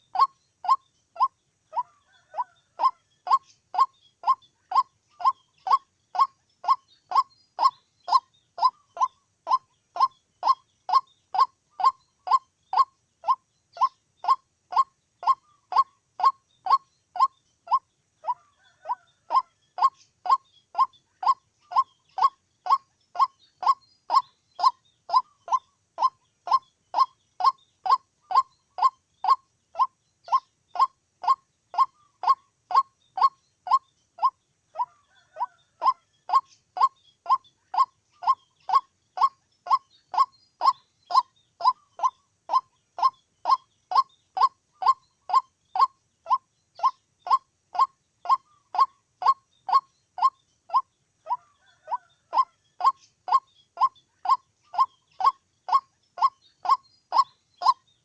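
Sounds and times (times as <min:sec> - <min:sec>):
waterhen calling: 0:00.0 - 0:57.8.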